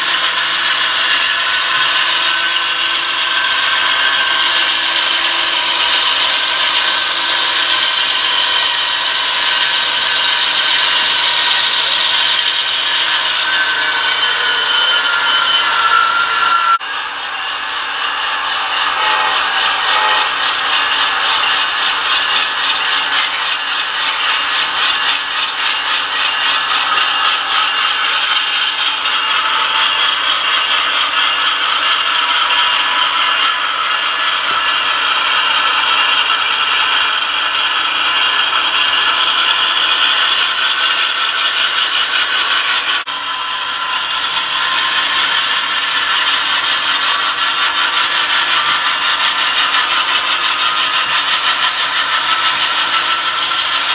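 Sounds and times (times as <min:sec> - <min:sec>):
model train wheels rattling on rails: 0:00.0 - 0:53.9.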